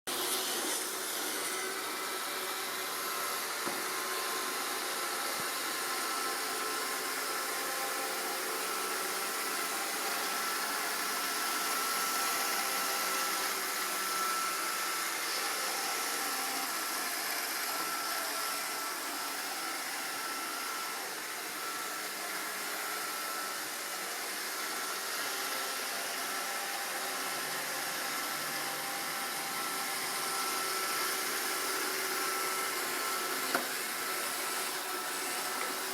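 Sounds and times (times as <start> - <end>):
robot vacuum whirring: 0.1 - 35.9.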